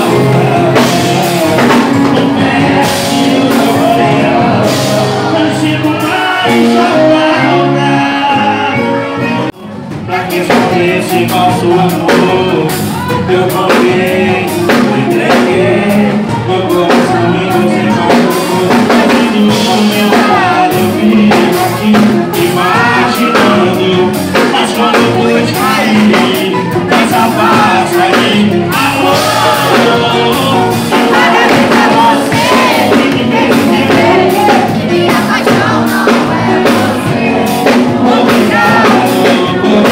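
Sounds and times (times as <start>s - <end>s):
singing over a steady beat: 0.0s - 39.9s.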